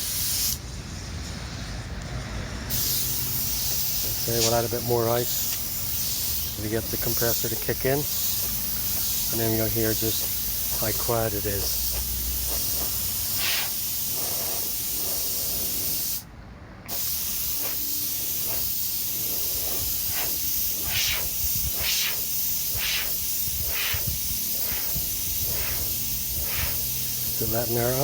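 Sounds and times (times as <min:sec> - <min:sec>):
short air puffs: 0:00.0 - 0:01.8, 0:02.6 - 0:16.3, 0:16.9 - 0:28.0
compressed air hissing: 0:00.0 - 0:16.3, 0:16.9 - 0:28.0.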